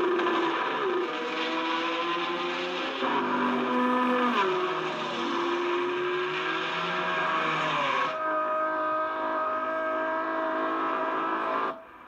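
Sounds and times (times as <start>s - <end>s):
racing car engines passing by: 0.1s - 12.0s.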